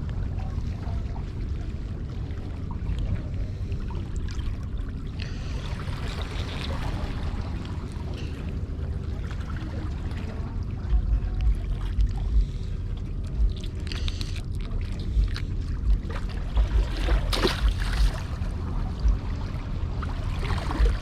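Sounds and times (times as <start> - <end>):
water washing against a pier: 0.0 - 21.0
wind buffeting the microphone: 0.0 - 21.0.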